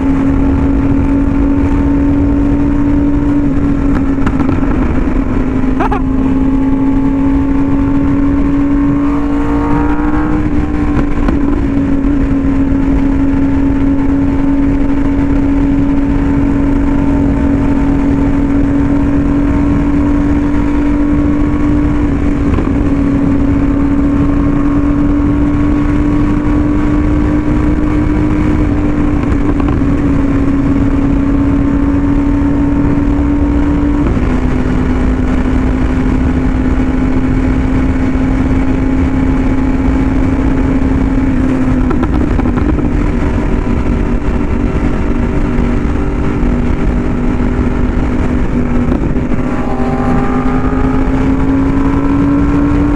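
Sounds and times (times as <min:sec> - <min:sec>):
motorcycle engine at high revs: 0:00.0 - 0:52.9
wind noise: 0:00.0 - 0:52.9.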